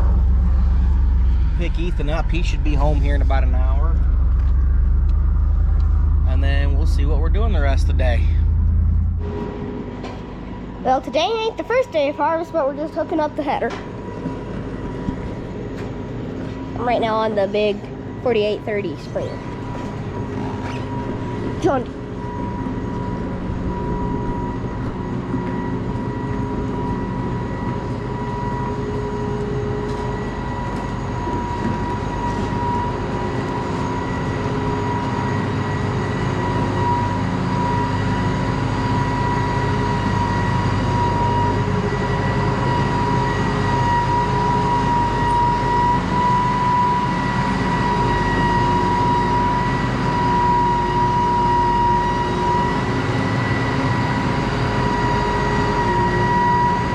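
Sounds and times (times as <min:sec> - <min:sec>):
diesel engine drone: 0:00.0 - 0:56.9
high even whine: 0:00.0 - 0:56.9.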